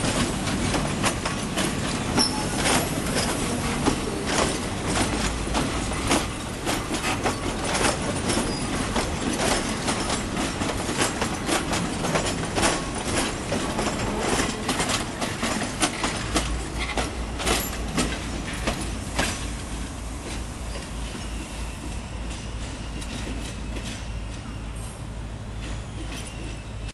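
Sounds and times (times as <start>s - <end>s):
low train rumble: 0.0s - 26.9s
train wheels clicking over rail joints: 0.0s - 26.9s.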